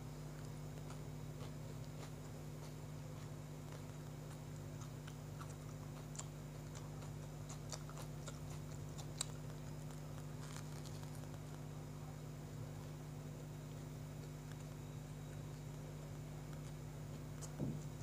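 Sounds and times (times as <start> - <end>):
person chewing bread: 0.0 - 18.0
steady low hum: 0.0 - 18.0.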